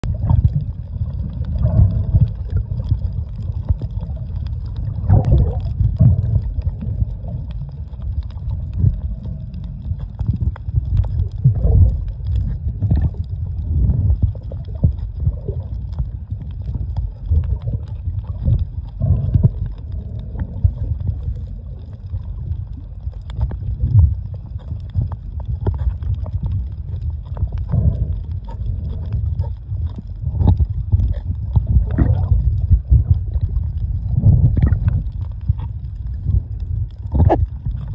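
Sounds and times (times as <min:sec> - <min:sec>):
muffled underwater rumble: 0:00.0 - 0:37.9
water gurgling and sloshing: 0:00.0 - 0:37.9.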